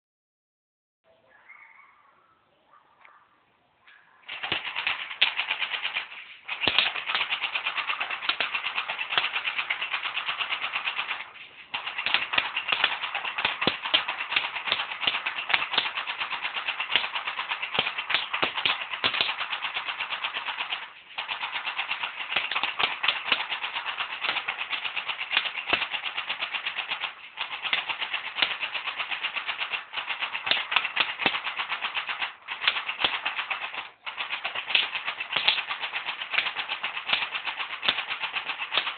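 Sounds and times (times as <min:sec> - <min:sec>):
bb gun firing rapid shots: 0:04.3 - 0:38.9.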